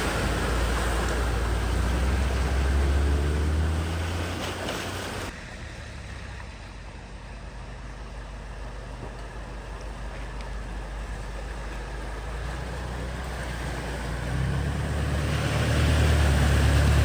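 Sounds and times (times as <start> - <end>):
engine rumbling low: 0.0 - 17.0
water noise: 0.0 - 17.0.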